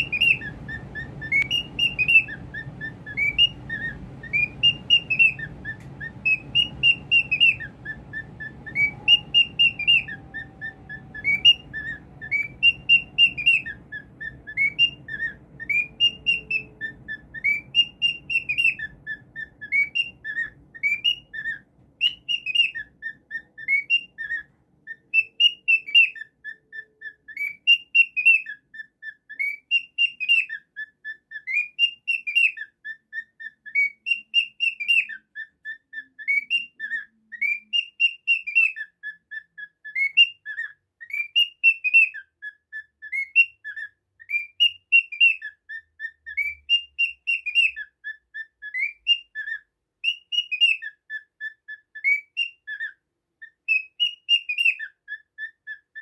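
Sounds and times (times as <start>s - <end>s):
cockatiel whistling: 0.0s - 56.0s.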